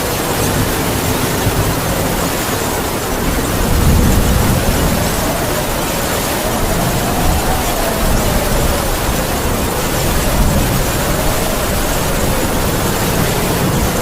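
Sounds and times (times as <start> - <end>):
heavy rain: 0.0 - 14.0
howling wind: 0.0 - 14.0.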